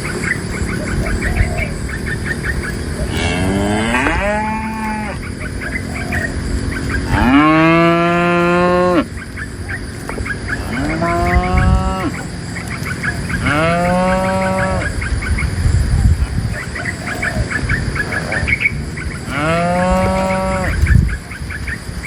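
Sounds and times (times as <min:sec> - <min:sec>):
cows mooing: 0:01.2 - 0:15.2, 0:16.5 - 0:21.0.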